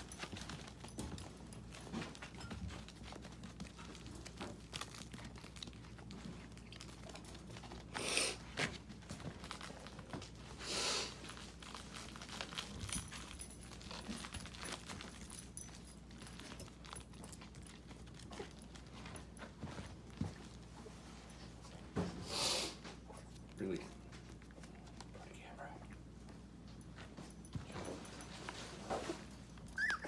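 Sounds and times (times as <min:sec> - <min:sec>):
crinkly pad rustling: 0:00.0 - 0:22.1, 0:22.7 - 0:30.0
puppy paws tapping and scraping: 0:00.0 - 0:30.0.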